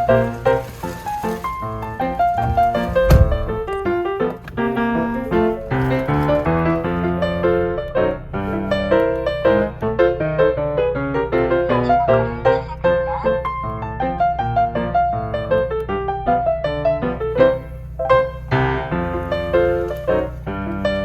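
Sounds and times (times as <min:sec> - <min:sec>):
piano quick run of notes: 0:00.0 - 0:21.0.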